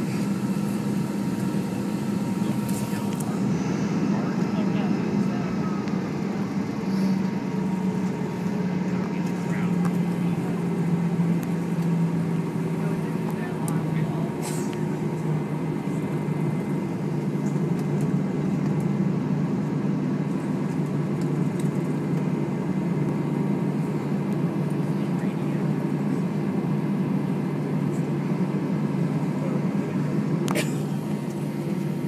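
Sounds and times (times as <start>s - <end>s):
aircraft cabin hum: 0.0s - 32.0s.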